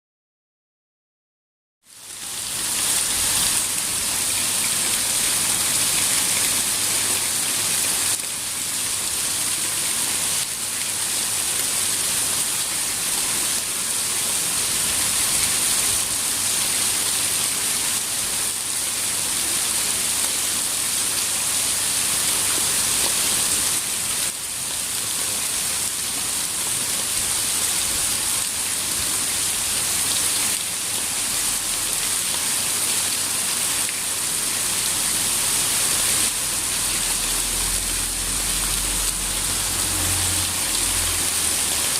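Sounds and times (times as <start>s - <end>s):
rain falling steadily: 1.9s - 41.9s.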